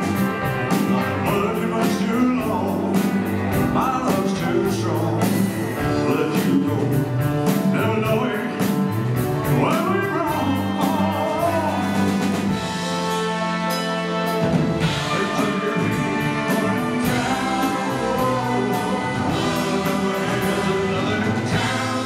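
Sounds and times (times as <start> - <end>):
person singing: 0.0 - 13.4, 14.2 - 22.0
drums and cymbals: 0.0 - 22.0
rock band playing: 0.0 - 22.0.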